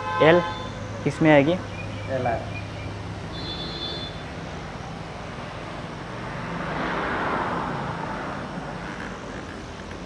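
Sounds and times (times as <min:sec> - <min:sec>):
traffic noise: 0:00.0 - 0:10.0
vehicle passing: 0:00.0 - 0:10.0.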